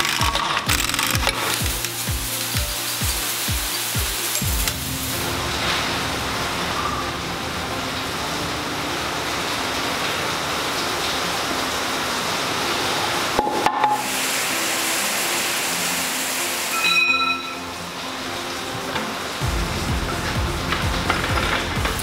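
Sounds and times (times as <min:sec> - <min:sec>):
background music: 0:00.0 - 0:22.0
steady hiss: 0:00.0 - 0:22.0.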